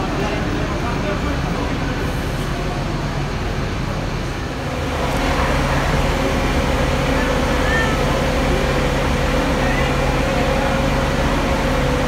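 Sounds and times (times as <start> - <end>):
steady hum: 0.0 - 12.0
traffic noise: 0.0 - 12.0
vehicle engine rumble: 0.0 - 12.0.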